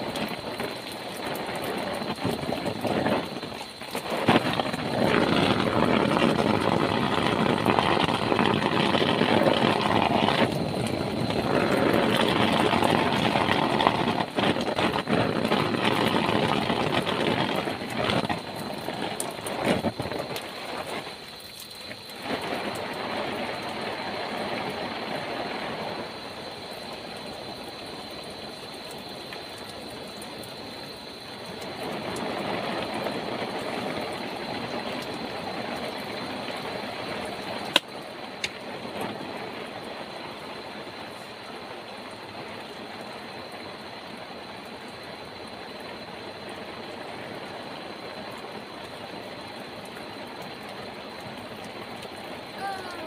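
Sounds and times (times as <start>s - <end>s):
heavy rain on plastic tarp: 0.0s - 53.0s.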